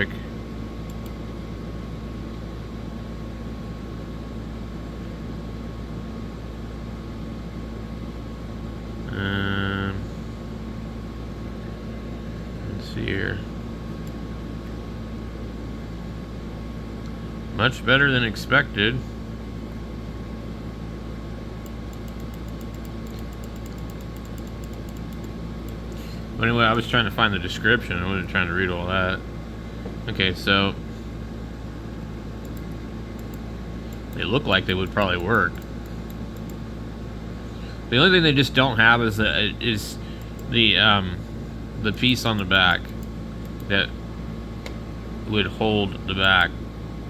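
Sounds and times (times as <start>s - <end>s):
low hum: 0.0s - 46.8s.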